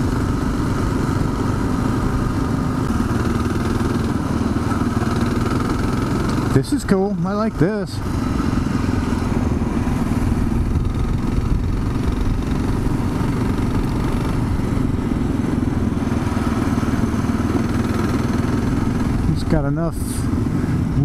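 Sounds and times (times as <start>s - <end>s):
motorcycle engine running: 0.0s - 21.0s
road and wind noise: 0.0s - 21.0s.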